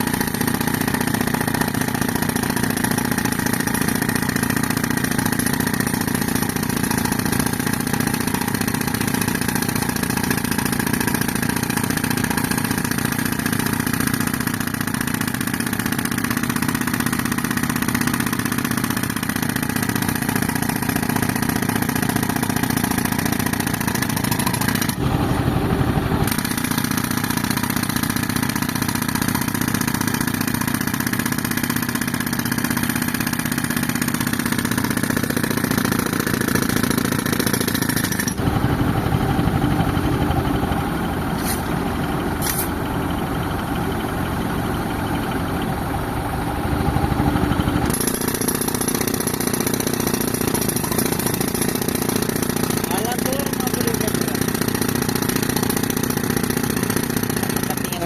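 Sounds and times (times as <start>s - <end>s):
pneumatic breaker hammering concrete: 0.0s - 42.9s, 46.7s - 58.0s
tractor engine running: 0.0s - 58.0s.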